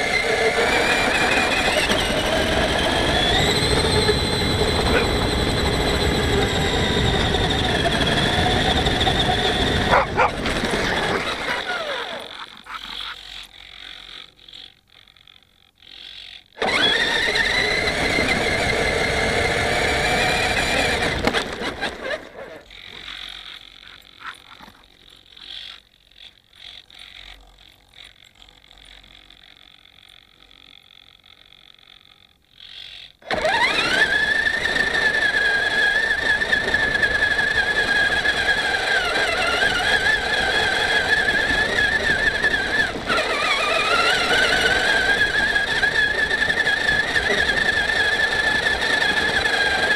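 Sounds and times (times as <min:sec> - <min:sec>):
rc truck motor whining: 0:00.0 - 0:49.9
servos whirring and clicking: 0:00.0 - 0:49.9.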